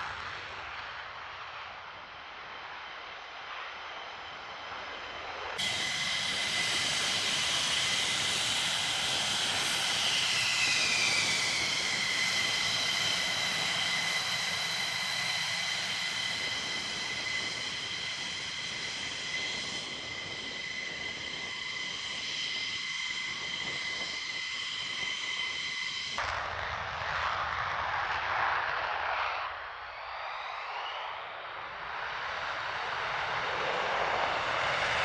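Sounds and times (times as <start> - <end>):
jet engine whine: 0.0 - 35.0.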